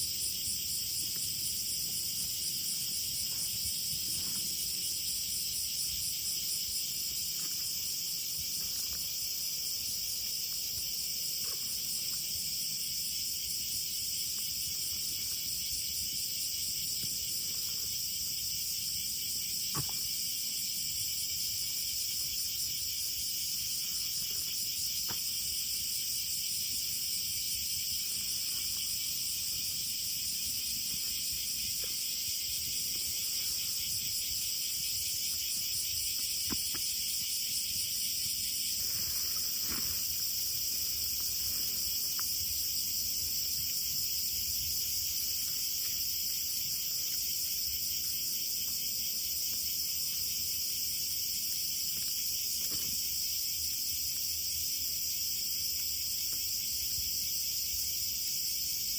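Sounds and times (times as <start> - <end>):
insect chorus chirring: 0.0 - 58.9.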